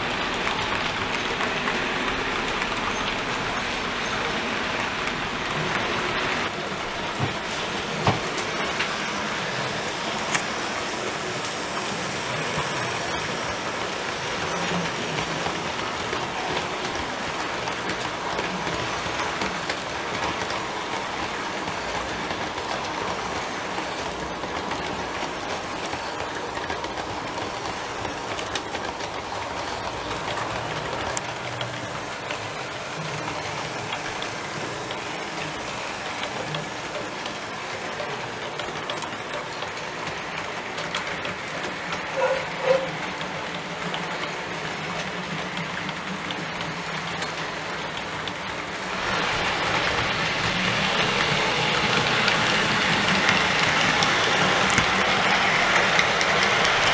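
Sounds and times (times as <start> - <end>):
model trains rolling on track: 0.0 - 56.9.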